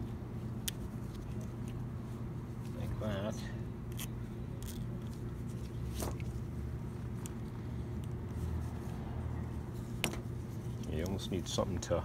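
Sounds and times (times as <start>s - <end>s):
low background hum: 0.0s - 12.0s
soft handling noise: 0.0s - 12.0s.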